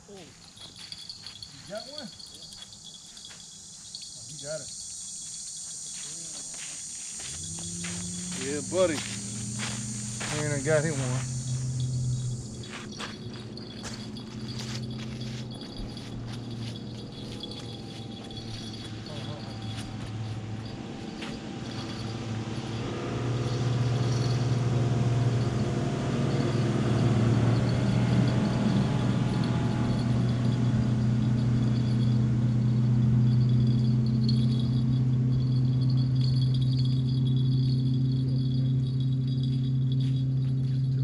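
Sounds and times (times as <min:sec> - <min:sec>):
motorboat engine drone: 0:07.2 - 0:41.0.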